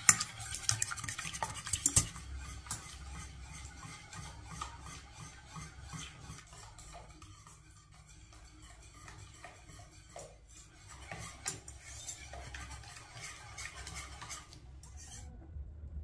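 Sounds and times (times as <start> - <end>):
utensils clinking against dishes: 1.2 - 15.1.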